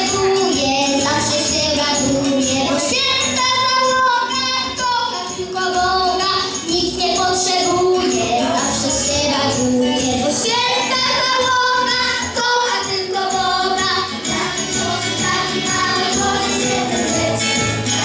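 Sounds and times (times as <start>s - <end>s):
children's choir singing: 0.0s - 18.0s
instrumental accompaniment: 0.0s - 18.0s.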